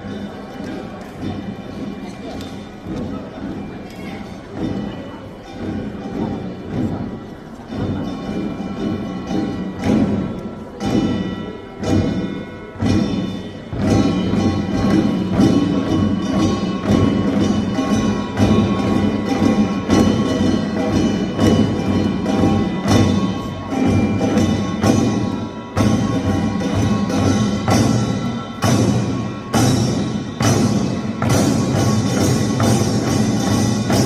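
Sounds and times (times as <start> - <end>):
drums: 0.0 - 34.0
small gongs clanging: 0.0 - 34.0.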